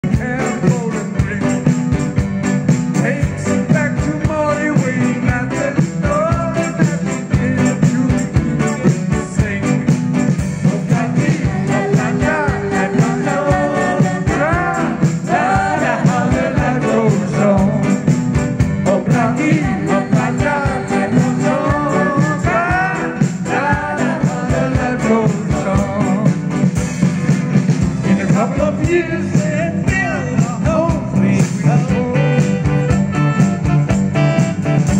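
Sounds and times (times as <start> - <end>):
band music with steady beat: 0.0 - 34.9.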